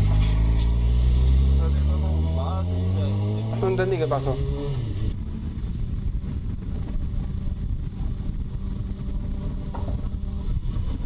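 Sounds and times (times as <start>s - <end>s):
motorcycle engine cruising: 0.0s - 11.0s
wind rumble on microphone: 0.0s - 11.0s.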